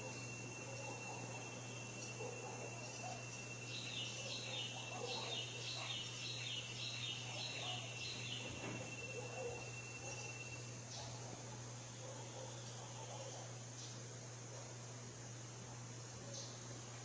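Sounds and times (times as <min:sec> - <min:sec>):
songbird singing: 0:00.0 - 0:14.1, 0:16.2 - 0:17.0.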